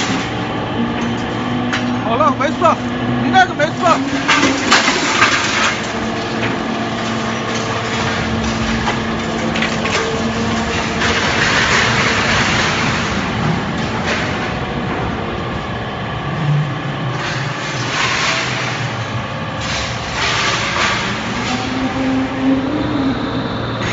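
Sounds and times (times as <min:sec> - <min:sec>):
scrap metal crunching: 0:00.0 - 0:22.7
hydraulic pump humming: 0:00.0 - 0:23.9.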